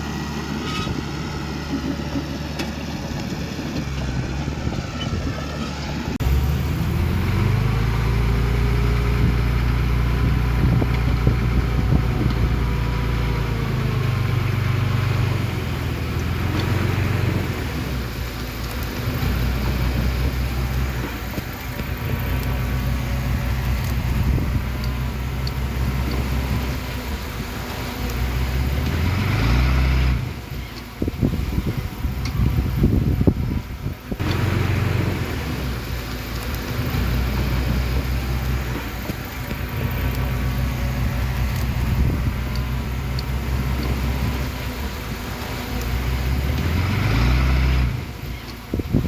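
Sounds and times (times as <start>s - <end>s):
heavy machinery diesel engine: 0.0s - 49.0s.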